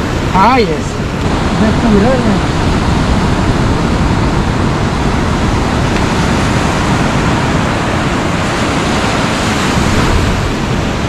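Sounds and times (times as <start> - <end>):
ocean surf breaking on beach: 0.0 - 11.0.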